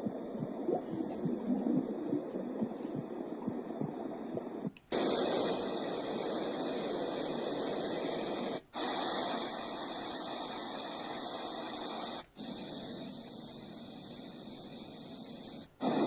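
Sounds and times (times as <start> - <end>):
white noise machine hissing: 0.0 - 16.0.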